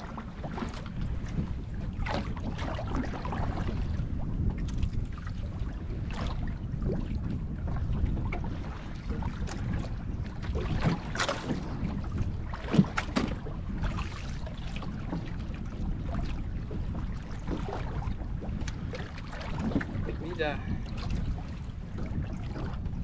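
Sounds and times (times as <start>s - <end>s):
water washing against boat: 0.0s - 23.0s
wind buffeting microphone: 0.0s - 23.0s.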